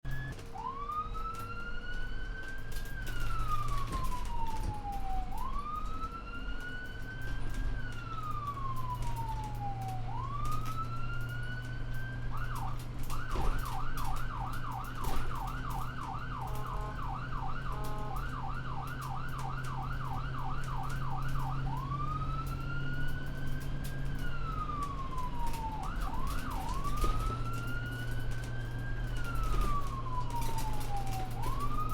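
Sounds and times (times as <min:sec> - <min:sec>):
emergency vehicle siren: 0:00.0 - 0:31.9.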